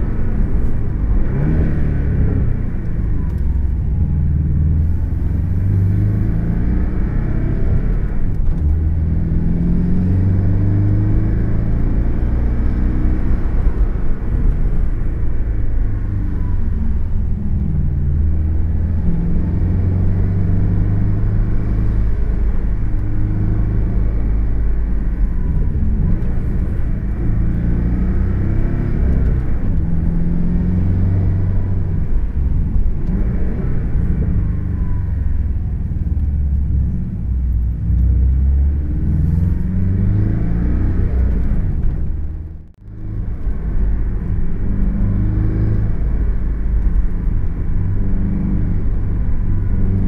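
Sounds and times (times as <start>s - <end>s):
road noise inside car: 0.0s - 50.0s.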